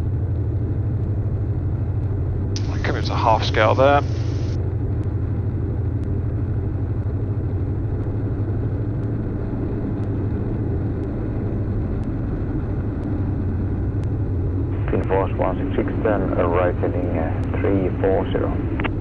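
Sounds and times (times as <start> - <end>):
aircraft engines droning: 0.0 - 19.0.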